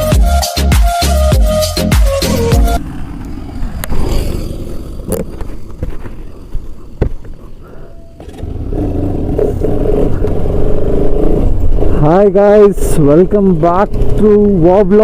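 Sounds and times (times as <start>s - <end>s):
motorcycle engine running: 1.8s - 15.0s.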